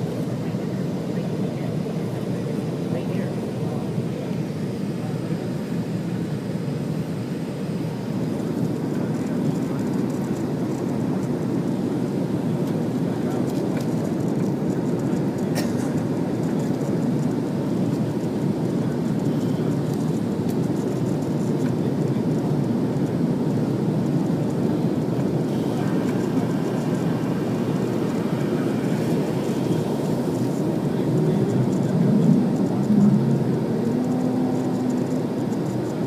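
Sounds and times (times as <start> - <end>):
jet engine cabin rumble: 0.0 - 36.0.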